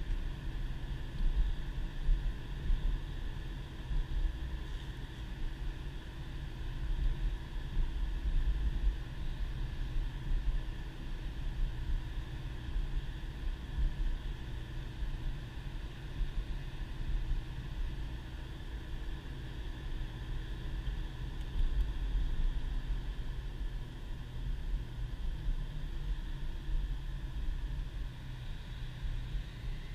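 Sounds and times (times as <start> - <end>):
car engine and tyre rumble: 0.0 - 29.9.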